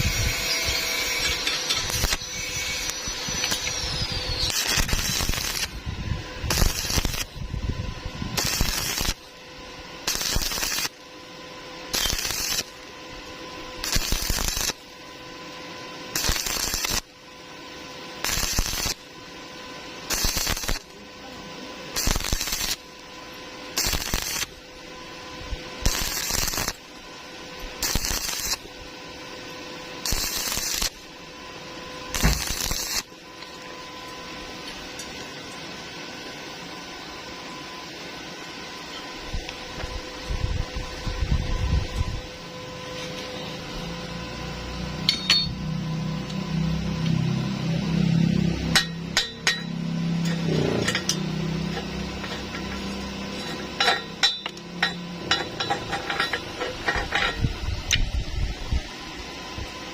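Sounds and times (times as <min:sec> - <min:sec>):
welding arc crackling: 0:00.0 - 0:35.6, 0:41.8 - 0:59.9
electrical hum: 0:00.0 - 0:59.9.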